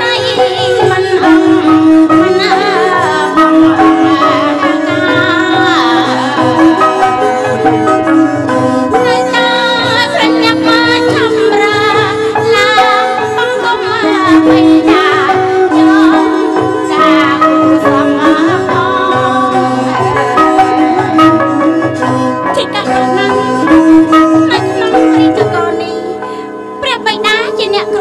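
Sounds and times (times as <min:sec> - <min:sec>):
instrumental accompaniment: 0:00.0 - 0:28.0
woman singing: 0:00.0 - 0:28.0.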